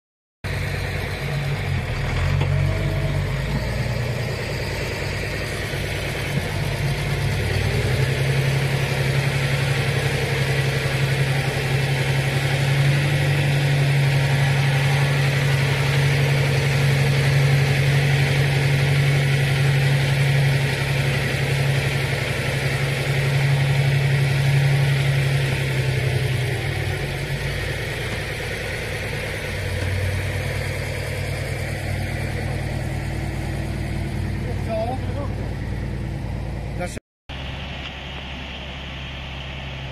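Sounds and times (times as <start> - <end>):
tractor diesel engine under load: 0.4 - 39.9.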